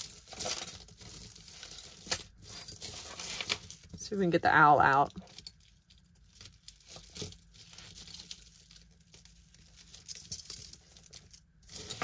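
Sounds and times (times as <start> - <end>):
metal jewelry clinking: 0.0 - 4.0, 5.0 - 12.0
rustling: 0.0 - 4.1, 5.3 - 12.0.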